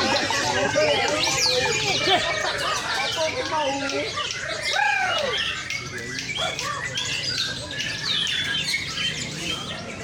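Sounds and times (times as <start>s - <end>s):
birds singing whistled phrases: 0.0s - 10.0s.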